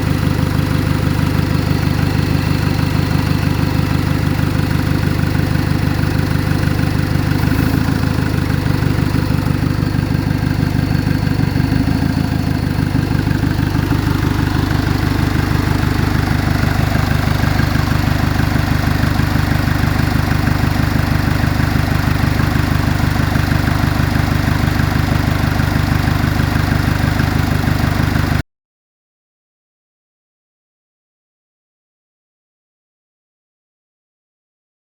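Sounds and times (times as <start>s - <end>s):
car engine idling: 0.0s - 28.4s.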